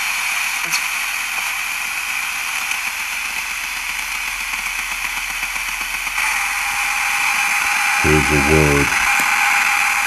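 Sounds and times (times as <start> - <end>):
radio static hissing: 0.0 - 10.0.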